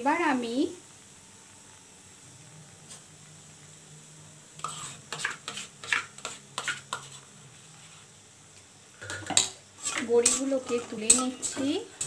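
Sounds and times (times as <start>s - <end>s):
hot oil popping and crackling: 0.1s - 7.8s, 8.5s - 12.0s.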